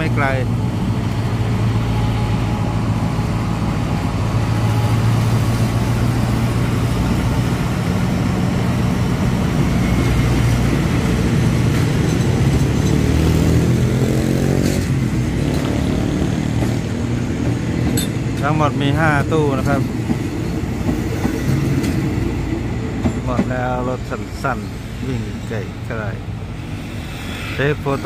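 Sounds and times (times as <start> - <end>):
diesel locomotive engine running: 0.0 - 28.0
train carriages rolling on rails: 0.0 - 28.0.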